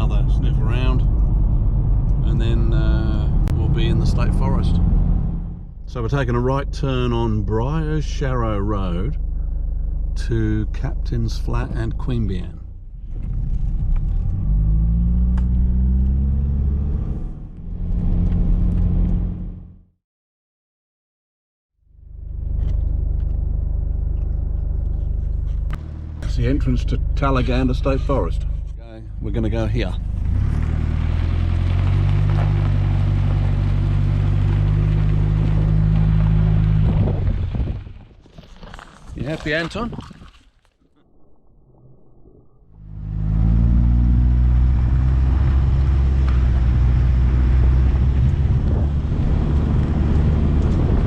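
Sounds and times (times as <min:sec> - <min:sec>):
engine pulling away: 0:00.0 - 0:19.8, 0:22.0 - 0:39.4, 0:42.8 - 0:51.0
road noise: 0:00.0 - 0:19.8, 0:22.0 - 0:39.9, 0:41.7 - 0:51.0.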